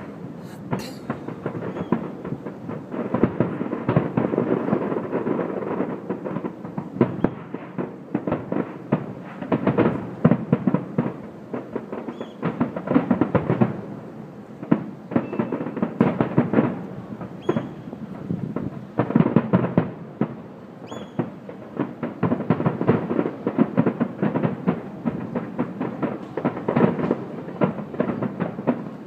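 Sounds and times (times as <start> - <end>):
fireworks crackling and popping: 0.0 - 29.0
sharp firework bangs: 0.0 - 29.0.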